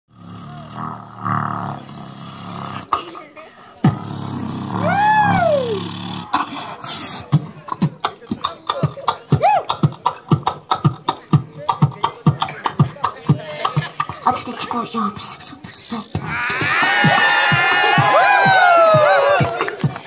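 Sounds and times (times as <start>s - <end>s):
boy beatboxing: 0.2s - 20.0s.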